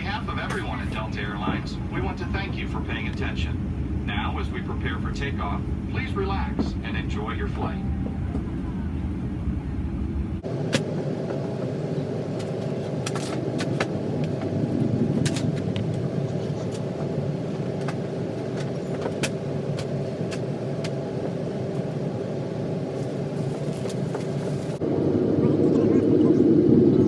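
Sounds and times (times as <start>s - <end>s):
airliner cabin hum: 0.0s - 27.0s.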